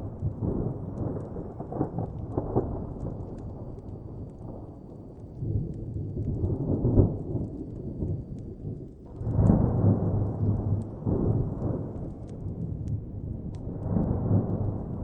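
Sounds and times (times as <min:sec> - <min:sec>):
thunder rumbling: 0:00.0 - 0:15.0
wood fire crackling: 0:00.0 - 0:15.0.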